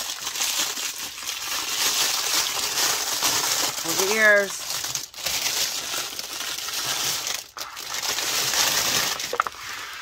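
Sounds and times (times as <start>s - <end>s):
packaging wrap crackling: 0.0s - 10.0s.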